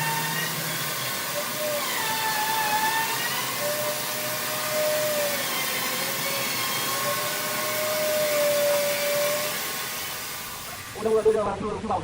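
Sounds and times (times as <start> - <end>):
power tool motor whining: 0.0 - 11.4.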